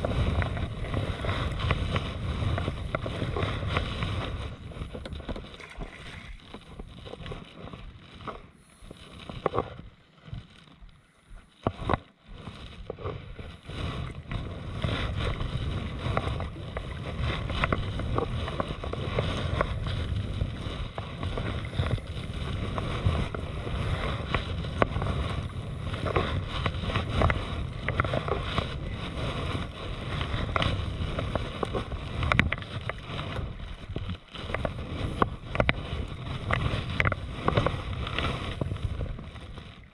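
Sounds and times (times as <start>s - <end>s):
paddle strokes splashing water: 0.0s - 39.9s
wind rumble on microphone: 0.0s - 39.9s.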